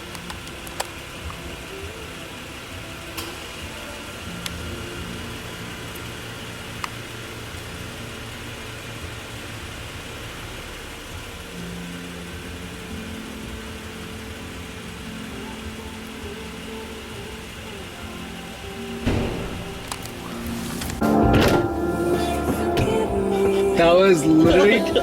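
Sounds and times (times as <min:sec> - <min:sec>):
car engine running: 0:00.0 - 0:25.0
road noise inside car: 0:00.0 - 0:25.0.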